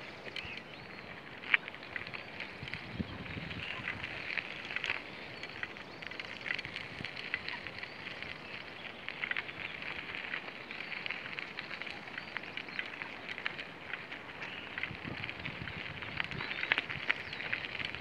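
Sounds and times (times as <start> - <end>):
small birds chirping: 0.0 - 1.2, 2.0 - 18.0.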